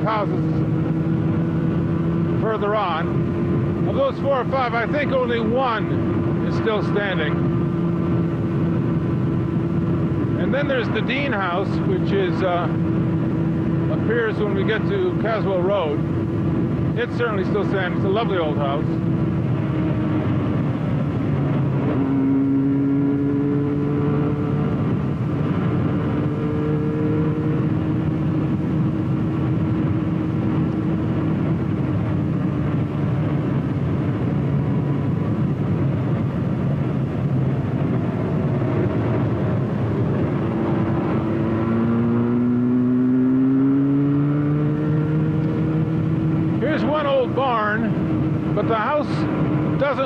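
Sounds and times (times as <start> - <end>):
motorcycle engine running: 0.0 - 50.0
wind and road rush: 0.0 - 50.0.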